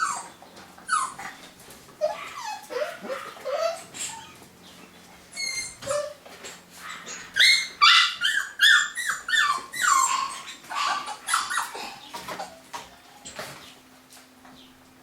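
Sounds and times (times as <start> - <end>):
puppies yelping and whimpering: 0.0 - 4.6, 5.2 - 13.3.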